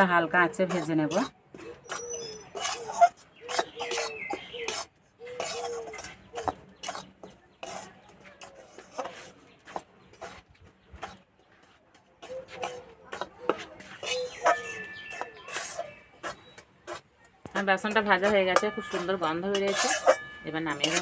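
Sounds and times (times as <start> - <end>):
metal spatula scraping a wok: 0.0 - 11.2, 12.2 - 21.0.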